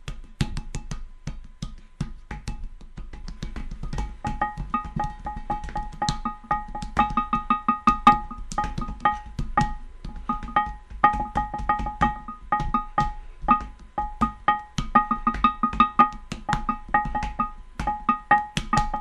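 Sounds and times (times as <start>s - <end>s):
struck stones percussion music: 0.0s - 19.0s.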